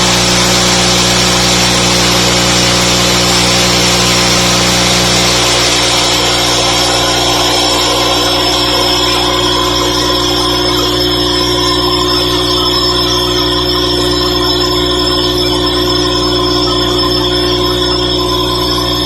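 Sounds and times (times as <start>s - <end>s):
two-stroke engine buzzing drone: 0.0s - 19.0s.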